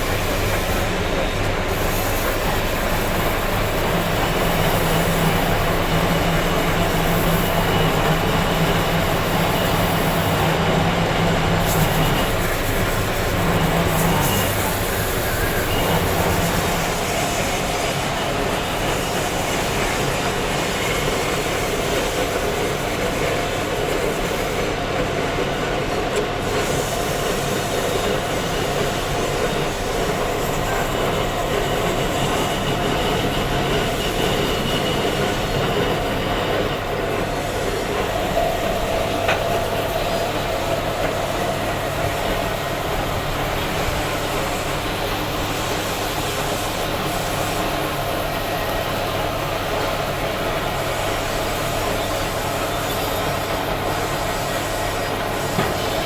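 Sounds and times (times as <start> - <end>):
machine running loudly: 0.0 - 56.0.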